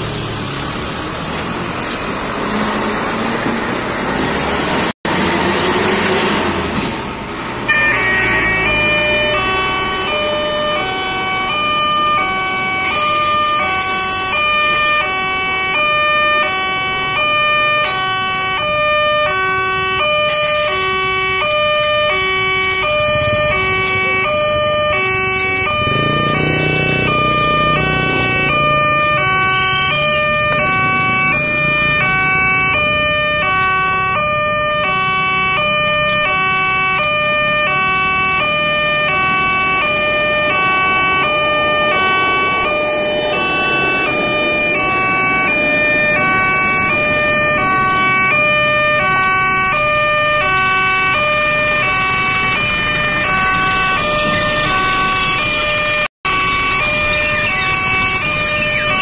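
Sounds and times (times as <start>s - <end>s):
level crossing alarm chime: 7.7s - 16.5s, 17.1s - 59.0s.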